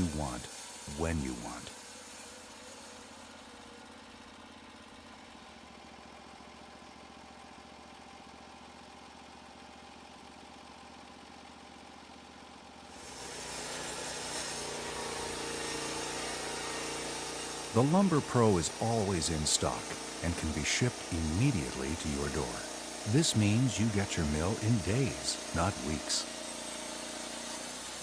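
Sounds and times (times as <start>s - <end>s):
small gasoline engine running: 0.0s - 28.0s.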